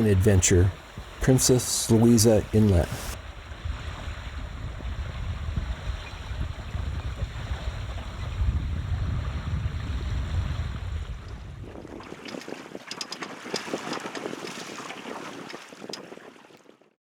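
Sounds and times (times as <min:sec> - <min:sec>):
wind buffeting microphone: 0:00.0 - 0:16.2
water rushing along boat hull: 0:00.0 - 0:17.0.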